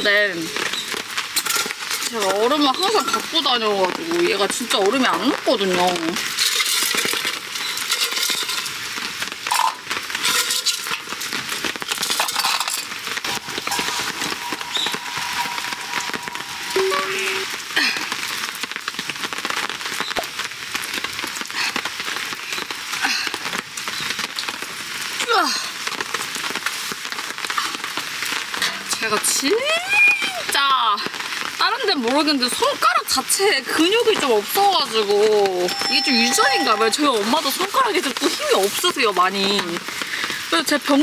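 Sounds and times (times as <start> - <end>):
rain pattering on a tarp: 0.0 - 41.0.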